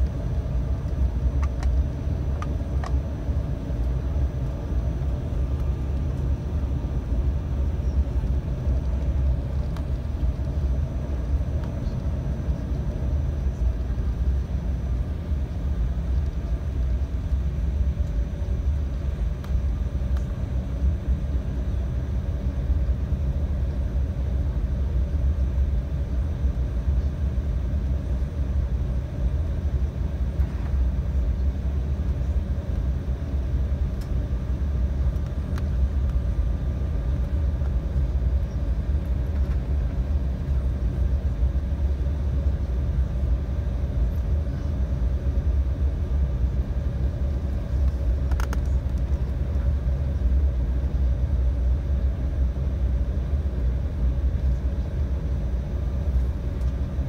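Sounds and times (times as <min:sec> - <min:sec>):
airliner cabin engine rumble: 0:00.0 - 0:57.0
faint hum: 0:00.0 - 0:57.0.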